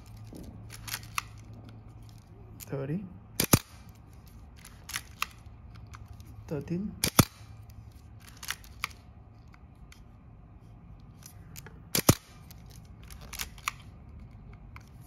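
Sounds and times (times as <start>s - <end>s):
small camera mechanical clicks: 0.1s - 2.7s, 3.4s - 6.4s, 7.0s - 10.0s, 11.1s - 15.0s.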